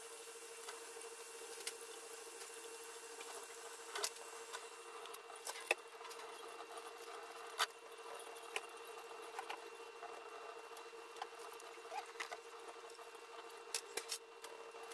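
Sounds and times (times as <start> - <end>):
steady hum: 0.0 - 14.9.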